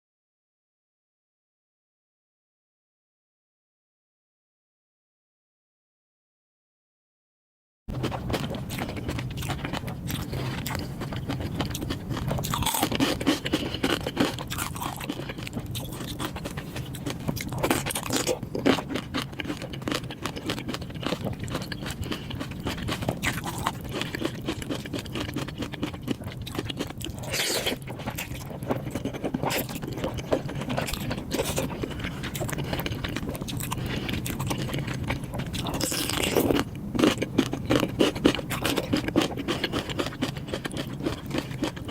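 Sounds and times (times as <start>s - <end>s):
faint low hum: 7.9s - 41.9s
food crunching and chewing: 7.9s - 41.9s.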